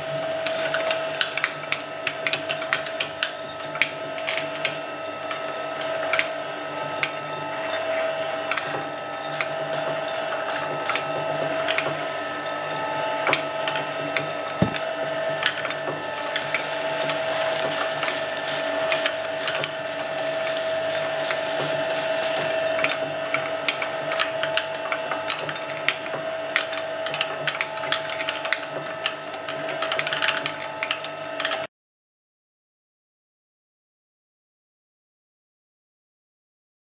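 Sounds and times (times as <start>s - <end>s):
shredder motor drone and whine: 0.0s - 31.6s.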